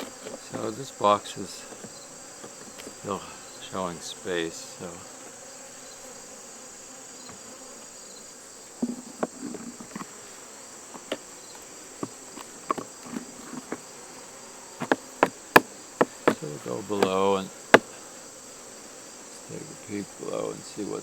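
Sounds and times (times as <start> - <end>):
wooden hive boxes knocking: 0.0 - 6.0, 6.9 - 21.0
honeybees buzzing: 0.0 - 21.0
insect chorus: 0.0 - 21.0.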